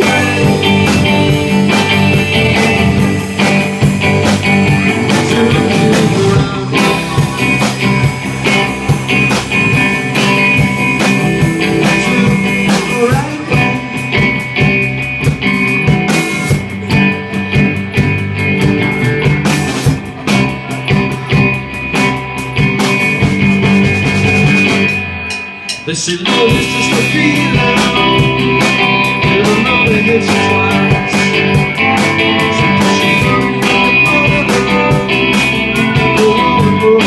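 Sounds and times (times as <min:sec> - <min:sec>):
rock band playing loudly: 0:00.0 - 0:37.0.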